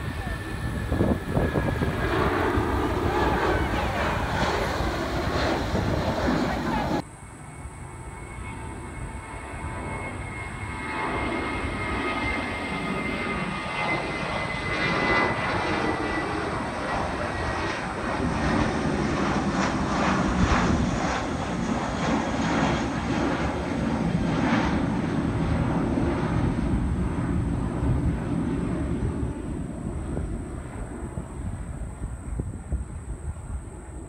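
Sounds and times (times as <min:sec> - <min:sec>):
high engine whine: 0:00.0 - 0:34.0
jet engines climbing: 0:00.0 - 0:34.0.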